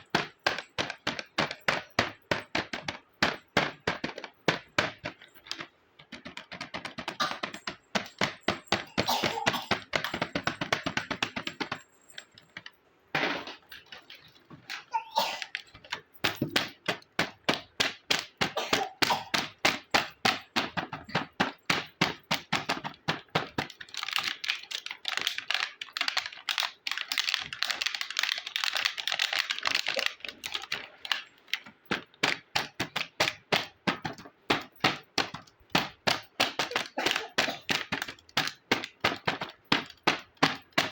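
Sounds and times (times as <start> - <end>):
plastic toy pieces clicking: 0.0 - 12.7, 13.7 - 40.9.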